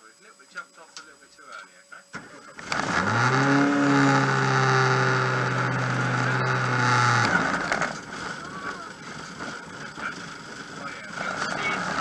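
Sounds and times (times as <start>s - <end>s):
car engine starting and idling: 2.2s - 12.0s.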